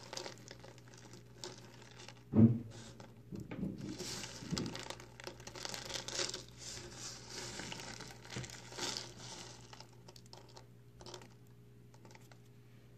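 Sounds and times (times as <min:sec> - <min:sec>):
soap pieces crunching and crackling: 0:00.0 - 0:02.3, 0:04.0 - 0:12.4.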